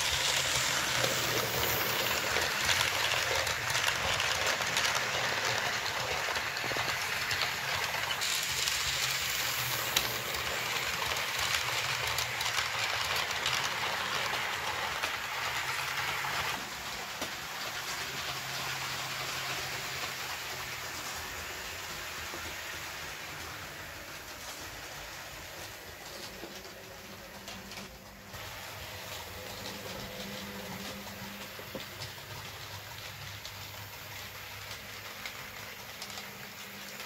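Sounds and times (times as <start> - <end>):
model train wheels rattling on rails: 0.0 - 37.0.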